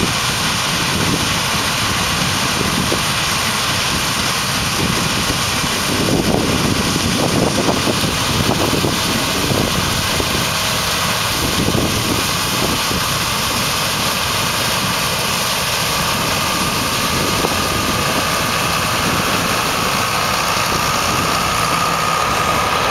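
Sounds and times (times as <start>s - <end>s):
combine harvester running: 0.0s - 22.9s.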